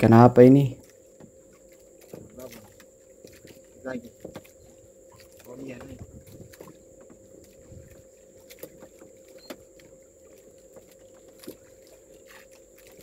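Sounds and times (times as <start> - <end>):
faint steady hum: 0.0 - 13.0
water lapping against boat hull: 0.0 - 13.0.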